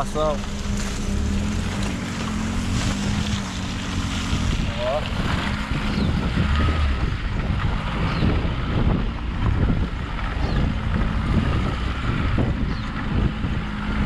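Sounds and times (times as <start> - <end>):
car engine running: 0.0 - 14.0
tyres rolling over ruts: 0.0 - 14.0
wind buffeting microphone: 0.0 - 14.0.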